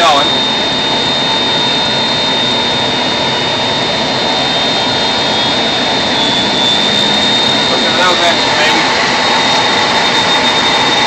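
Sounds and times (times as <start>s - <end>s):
high whine: 0.0s - 11.0s
jet engines idling: 0.0s - 11.0s.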